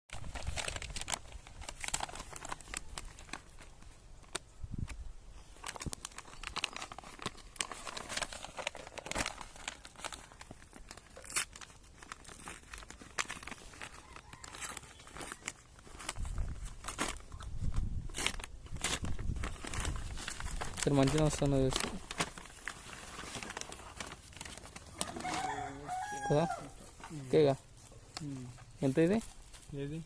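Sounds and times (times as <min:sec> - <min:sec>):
packaging tearing and crinkling: 0:00.1 - 0:04.9, 0:05.6 - 0:27.5.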